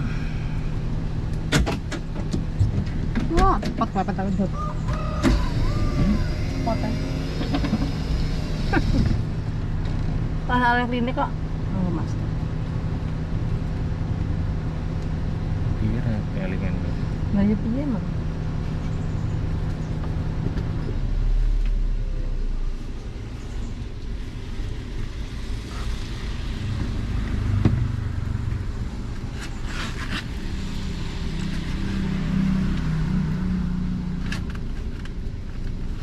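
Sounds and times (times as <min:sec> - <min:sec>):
vehicle engine rumble: 0:00.0 - 0:36.0.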